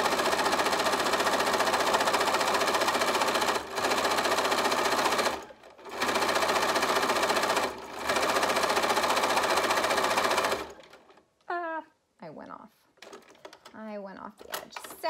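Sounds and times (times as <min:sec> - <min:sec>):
sewing machine stitching: 0:00.0 - 0:11.2, 0:13.0 - 0:15.0.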